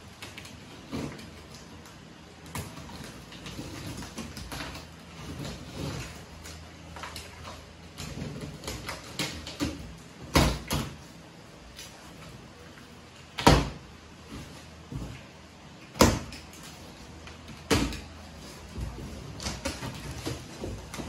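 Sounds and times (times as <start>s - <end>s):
plastic and cardboard crinkling: 0.0s - 21.0s.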